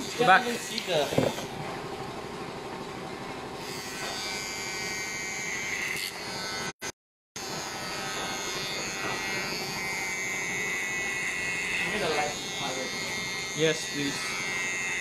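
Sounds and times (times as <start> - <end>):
electric hair clipper buzzing: 0.0 - 1.6, 3.6 - 15.0.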